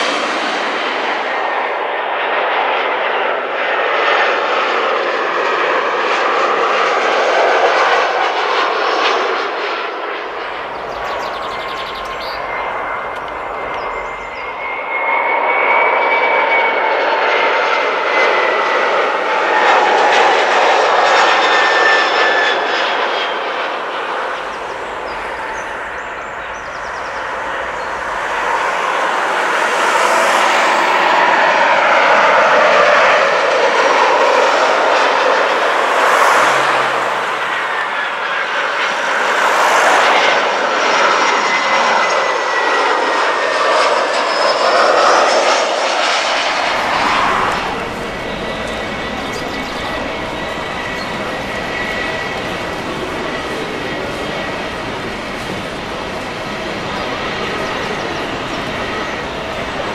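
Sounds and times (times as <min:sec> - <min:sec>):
jet airliners passing overhead: 0:00.0 - 0:59.9.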